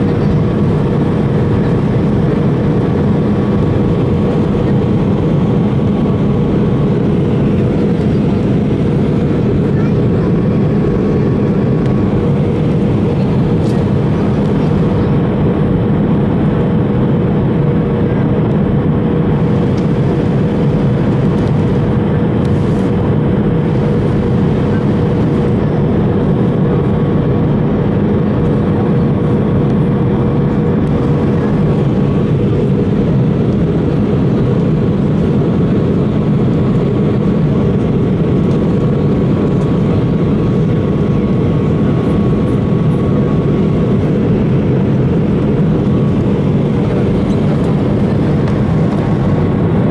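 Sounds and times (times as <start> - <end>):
roar of engines and airflow: 0.0 - 49.9.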